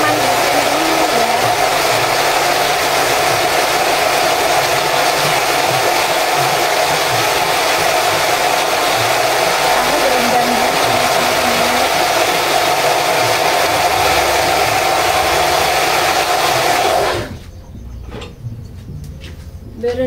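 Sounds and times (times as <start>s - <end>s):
electric blender running: 0.0s - 17.4s.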